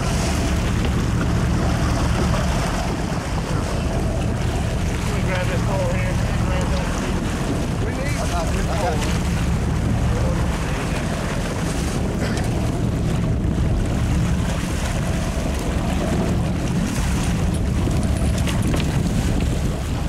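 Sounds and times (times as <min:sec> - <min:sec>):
boat engine rumbling: 0:00.0 - 0:20.0
water splashing along hull: 0:00.0 - 0:20.0
wind buffeting microphone: 0:00.0 - 0:20.0.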